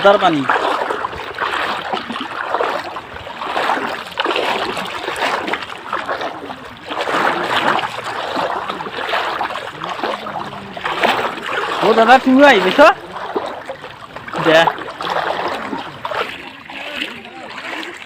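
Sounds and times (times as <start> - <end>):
floodwater rushing and splashing: 0.0 - 18.0.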